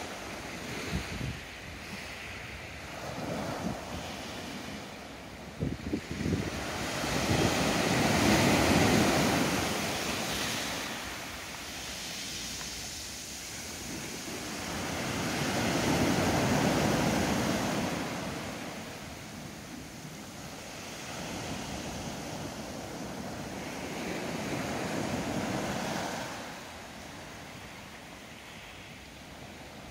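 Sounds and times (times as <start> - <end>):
small waves breaking on beach: 0.0 - 29.9.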